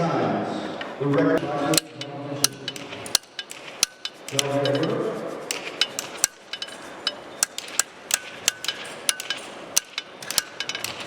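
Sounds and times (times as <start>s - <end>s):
hammers clanging on anvils: 1.4s - 11.0s.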